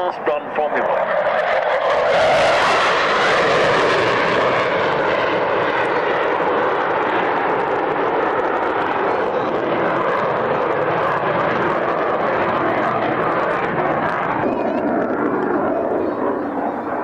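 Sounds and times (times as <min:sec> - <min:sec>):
jet aircraft passing low: 0:00.0 - 0:17.0.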